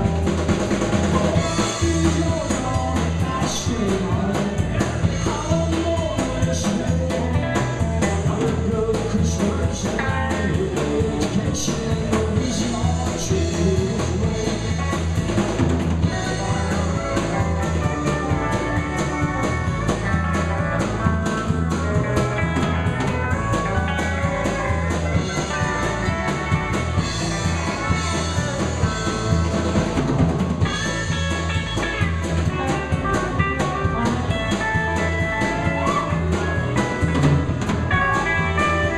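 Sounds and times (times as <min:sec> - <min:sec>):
drum kit beat: 0:00.0 - 0:38.9
electric bass: 0:00.0 - 0:38.9
electric guitars: 0:00.0 - 0:38.9
pedal steel guitar: 0:00.0 - 0:38.9.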